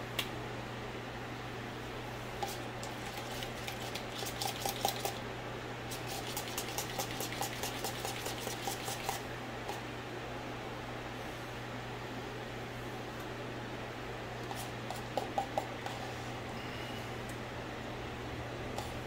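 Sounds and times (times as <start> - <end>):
kitchen fan humming: 0.0 - 19.0.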